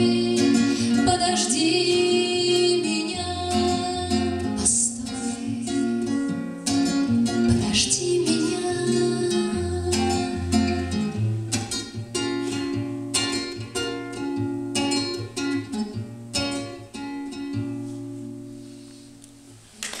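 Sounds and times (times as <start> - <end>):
classical guitar chords: 0.0 - 20.0.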